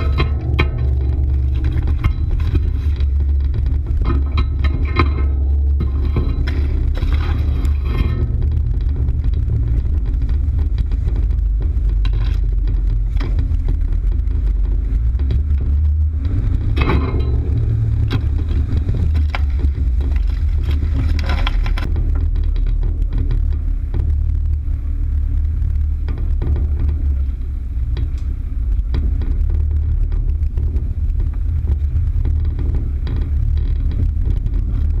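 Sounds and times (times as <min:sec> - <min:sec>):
knocks and rattles: 0:00.0 - 0:35.0
off-road engine rumble: 0:00.0 - 0:35.0.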